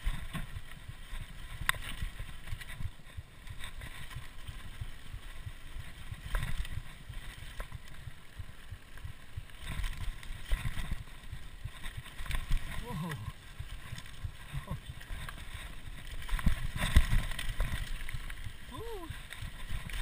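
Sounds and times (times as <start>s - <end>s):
bike frame rattling: 0.0s - 20.0s
bike tyres crunching over dirt: 0.0s - 20.0s.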